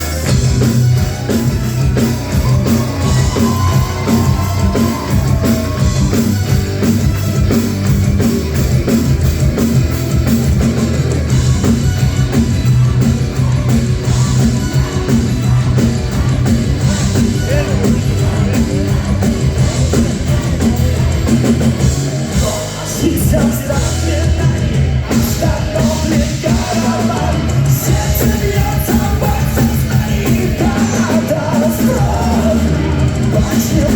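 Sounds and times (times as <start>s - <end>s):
live metal band playing: 0.0s - 33.9s.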